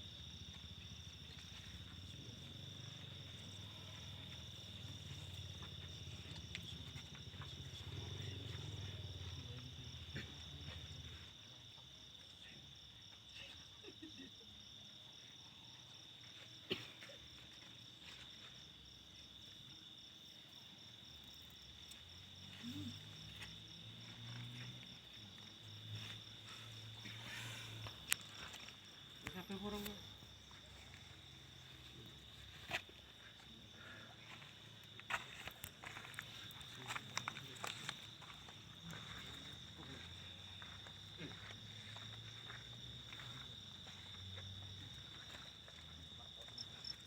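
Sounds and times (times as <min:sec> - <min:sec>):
crickets trilling: 0:00.0 - 0:47.0.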